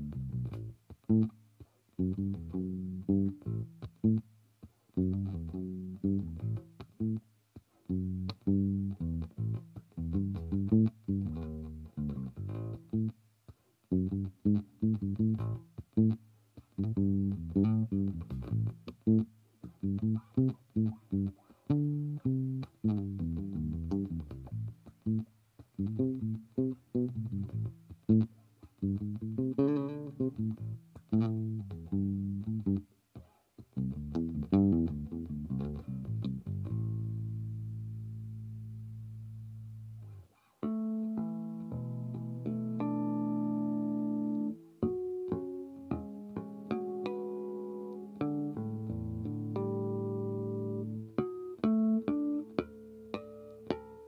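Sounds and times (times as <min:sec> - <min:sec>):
electric bass plucked notes: 0:00.0 - 0:01.4, 0:02.0 - 0:04.3, 0:04.9 - 0:07.3, 0:07.9 - 0:13.2, 0:13.9 - 0:32.9, 0:33.6 - 0:54.0.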